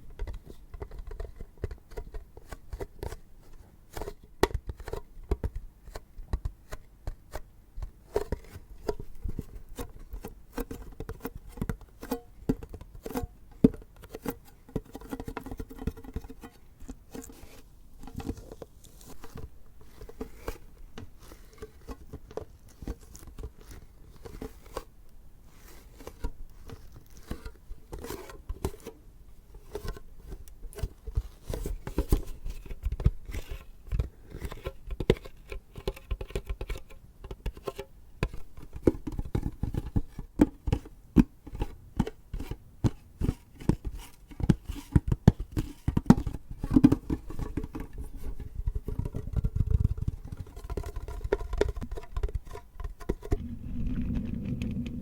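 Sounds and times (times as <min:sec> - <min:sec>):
tin container tapped and scratched: 0:04.0 - 0:24.9, 0:31.1 - 0:55.0.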